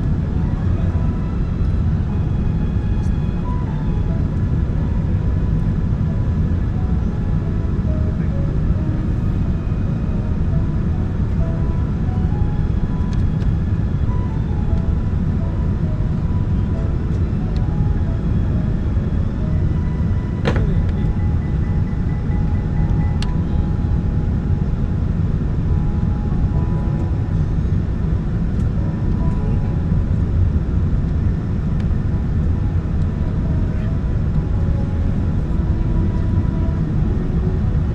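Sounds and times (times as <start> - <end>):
faint music notes: 0.0 - 37.9
jet airliner rumble: 0.0 - 37.9.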